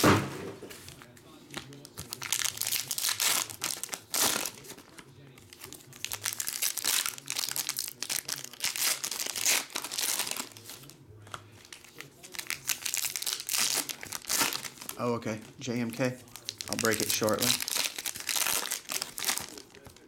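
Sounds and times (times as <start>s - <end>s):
foil wrapper crinkling: 0.8s - 20.0s.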